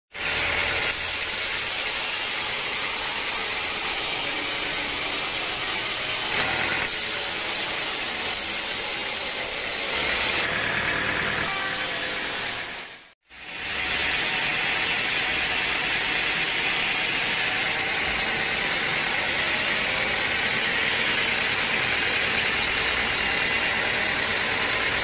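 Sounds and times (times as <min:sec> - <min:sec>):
band saw blade cutting wood: 0:00.2 - 0:25.0.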